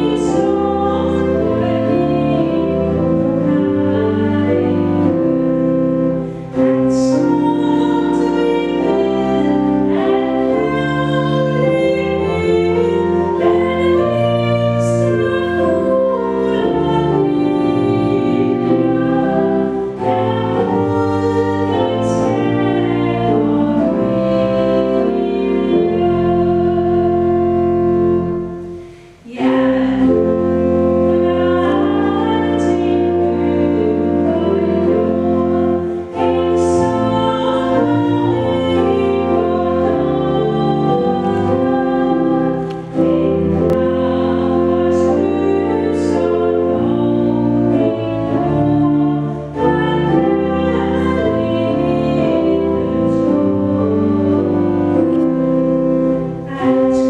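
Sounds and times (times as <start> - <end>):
pipe organ: 0.0 - 57.0
woman singing a hymn: 0.0 - 57.0.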